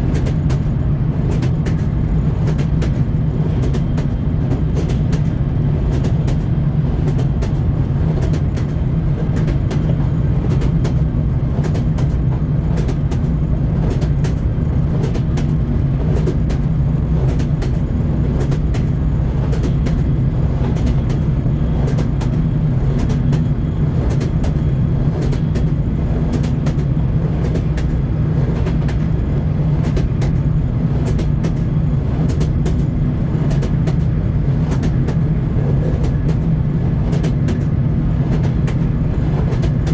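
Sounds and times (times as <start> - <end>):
railway carriage rumble: 0.0 - 39.9
train wheels clacking: 0.0 - 39.9.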